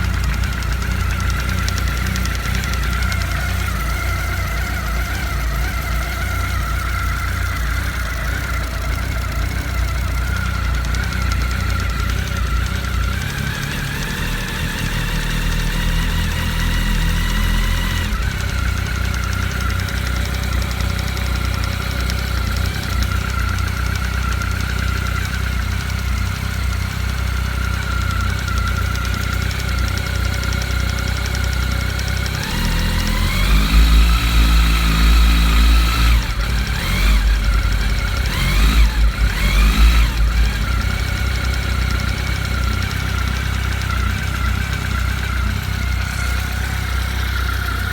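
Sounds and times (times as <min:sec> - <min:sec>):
engine knocking: 0:00.0 - 0:47.9
motorcycle engine idling and revving: 0:00.0 - 0:47.9.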